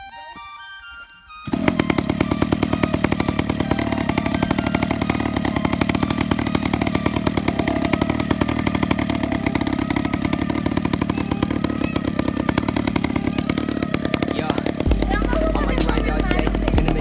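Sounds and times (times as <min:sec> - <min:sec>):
model airplane engine buzzing: 0:01.2 - 0:17.0.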